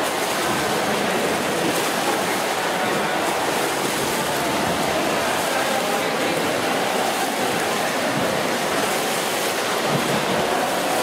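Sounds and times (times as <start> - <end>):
swimmers splashing: 0.0 - 11.0.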